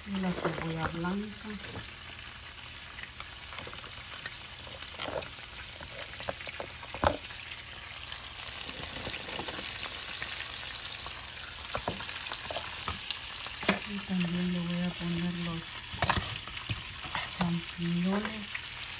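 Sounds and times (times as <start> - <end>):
vegetables sizzling in a pan: 0.0 - 18.9.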